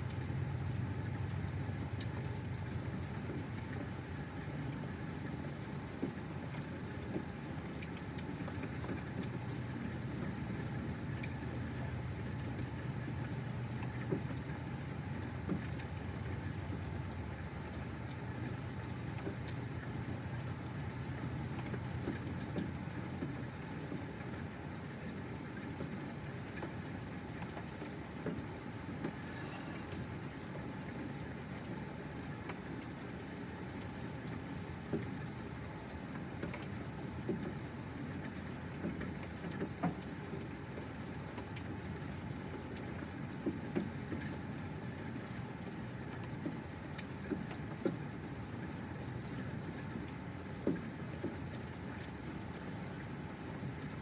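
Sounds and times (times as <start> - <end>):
sharp taps of raindrops: 0.0 - 54.0
steady rain falling: 0.0 - 54.0.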